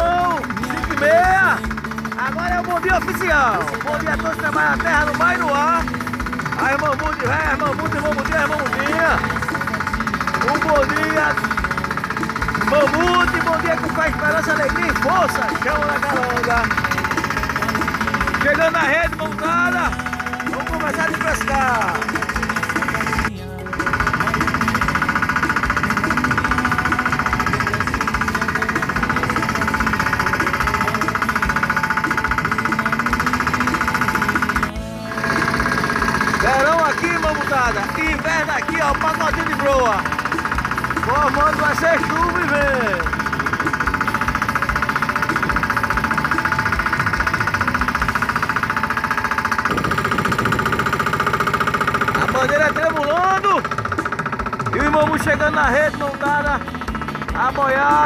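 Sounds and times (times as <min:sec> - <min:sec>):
boat engine knocking: 0:00.0 - 0:58.0.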